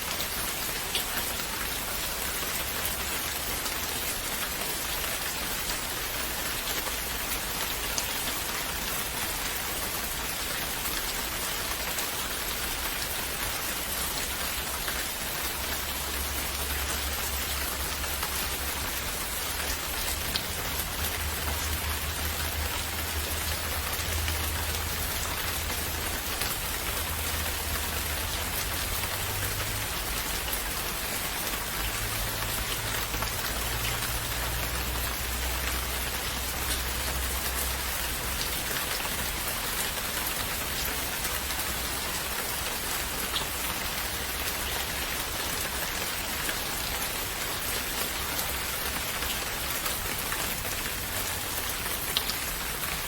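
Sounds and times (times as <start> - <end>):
steady rain hiss: 0.0 - 53.0
raindrops ticking: 10.3 - 53.0.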